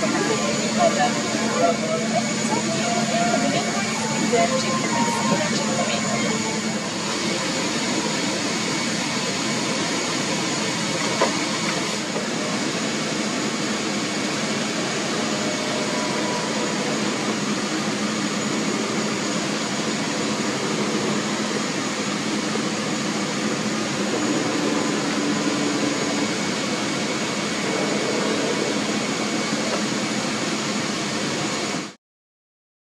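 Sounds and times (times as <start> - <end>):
airliner cabin noise: 0.0 - 31.9.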